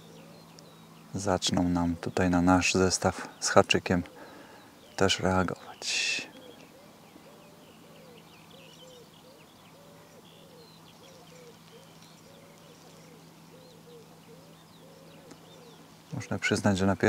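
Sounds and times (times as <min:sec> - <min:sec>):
faint low hum: 0:00.0 - 0:17.0
low hooting calls: 0:00.0 - 0:17.0
small birds chirping: 0:00.0 - 0:17.0.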